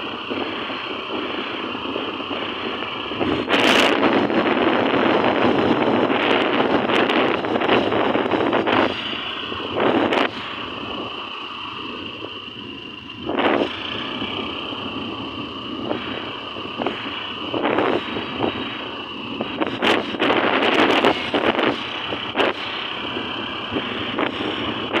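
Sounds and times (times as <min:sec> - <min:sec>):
scooter engine and road noise: 0:00.0 - 0:25.0
wind buffeting microphone: 0:00.0 - 0:25.0.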